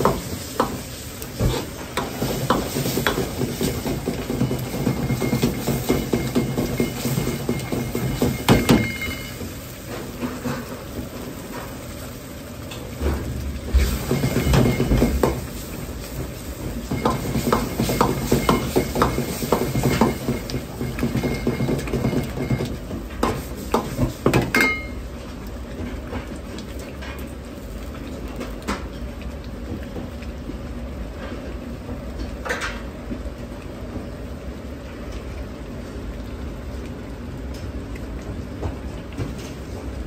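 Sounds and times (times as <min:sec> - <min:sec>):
gas burner rumble: 0:00.0 - 0:40.0.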